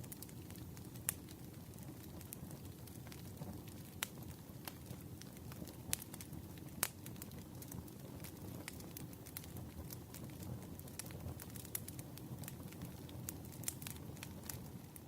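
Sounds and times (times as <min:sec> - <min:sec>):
campfire flames rushing: 0:00.0 - 0:15.0
logs crackling and popping: 0:00.0 - 0:15.0.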